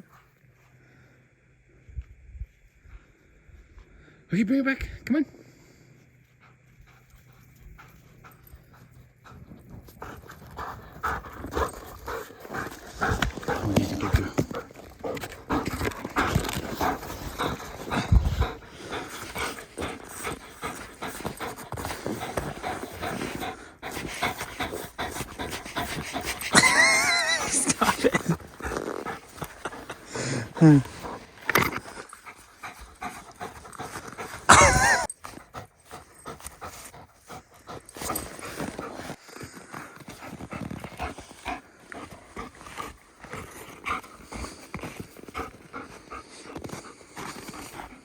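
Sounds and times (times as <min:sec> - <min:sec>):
dog panting: 0:06.2 - 0:48.0.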